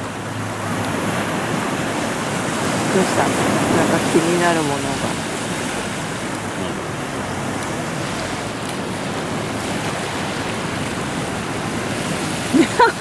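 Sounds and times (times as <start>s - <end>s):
sea surf washing over rocks: 0.0s - 13.0s.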